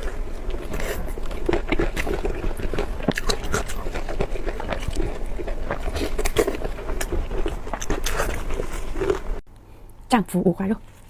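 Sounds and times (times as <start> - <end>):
person chewing food: 0.0 - 9.4
steady low hum: 0.0 - 11.0.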